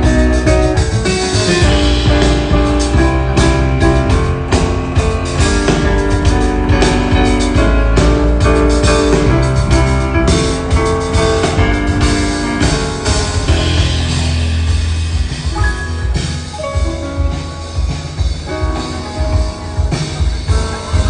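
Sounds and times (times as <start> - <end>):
bass line: 0.0 - 21.0
drum kit: 0.0 - 21.0
piano: 0.0 - 21.0.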